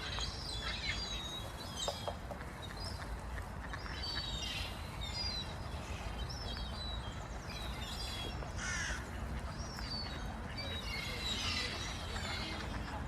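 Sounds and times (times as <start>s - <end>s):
wild birds calling: 0.0s - 13.0s.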